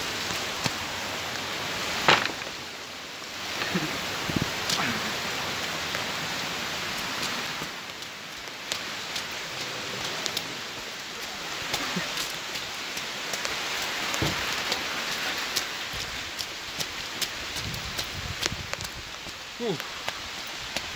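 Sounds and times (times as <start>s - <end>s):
heavy rain on leaves: 0.0s - 20.9s.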